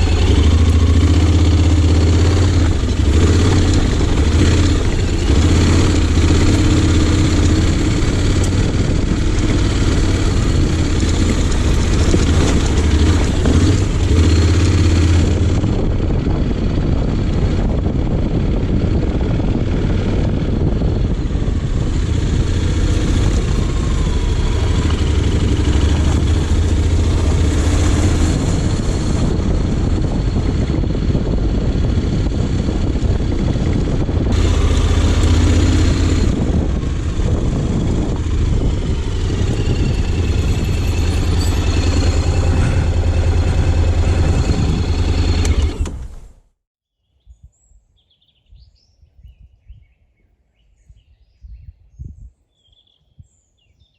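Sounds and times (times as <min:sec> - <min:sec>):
motorcycle engine running: 0:00.0 - 0:46.4.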